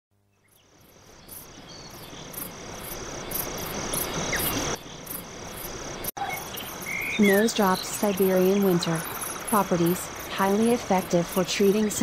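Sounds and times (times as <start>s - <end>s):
insects chirping: 0.2s - 12.0s.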